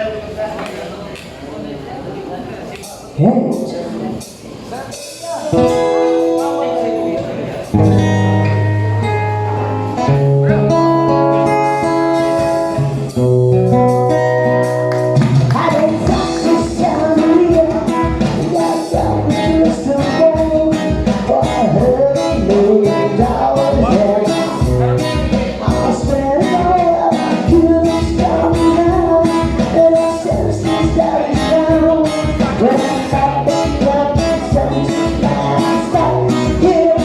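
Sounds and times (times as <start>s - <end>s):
live rock band: 3.5s - 37.0s.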